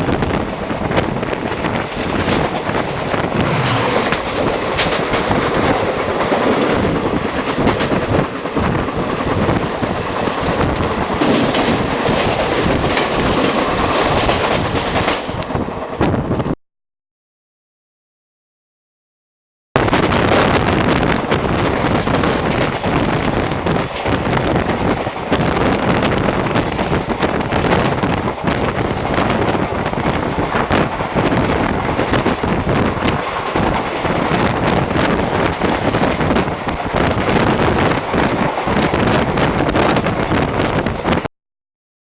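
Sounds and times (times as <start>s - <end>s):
moving train coach running noise: 0.0s - 16.5s, 19.8s - 41.3s
wind on microphone: 0.0s - 16.5s, 19.8s - 41.3s.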